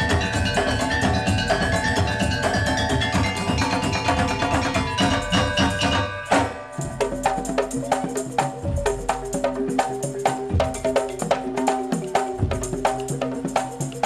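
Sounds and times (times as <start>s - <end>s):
mallet percussion ensemble: 0.0s - 14.0s.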